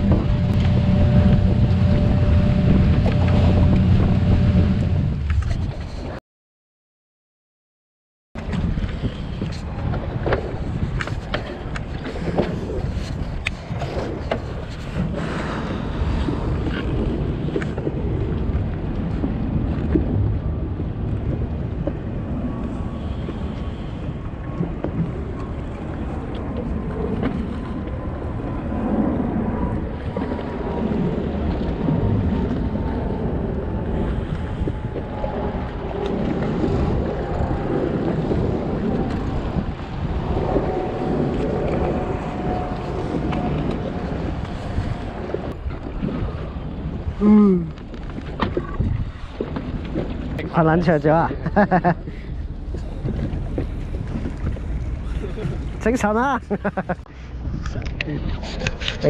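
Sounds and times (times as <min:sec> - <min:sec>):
water lapping around boat: 0:00.0 - 0:06.2, 0:08.4 - 0:59.0
wind buffeting microphone: 0:00.0 - 0:06.2, 0:08.4 - 0:59.0.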